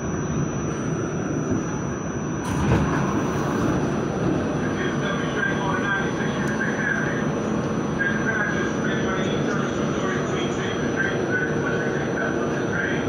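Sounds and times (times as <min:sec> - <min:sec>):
subway train rumbling on track: 0:00.0 - 0:13.0.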